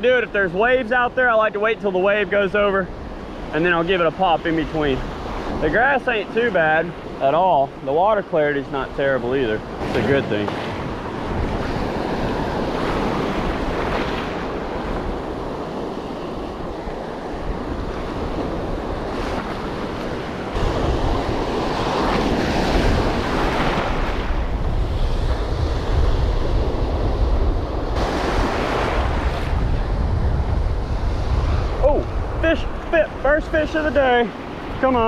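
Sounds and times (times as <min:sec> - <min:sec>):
surf breaking: 0:00.0 - 0:35.0
wind rumbling on microphone: 0:00.0 - 0:35.0.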